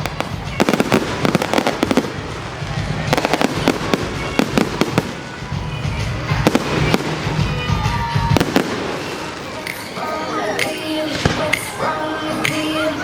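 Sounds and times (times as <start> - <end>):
fireworks bangs and crackling: 0.0 - 12.6
music playing: 0.0 - 13.0.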